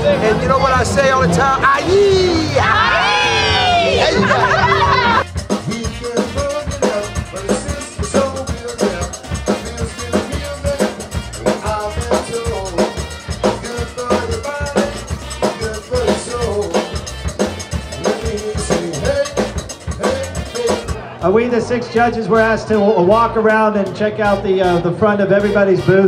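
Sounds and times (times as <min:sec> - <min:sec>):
drum kit beat: 0:00.0 - 0:26.0
electric bass: 0:00.0 - 0:26.0.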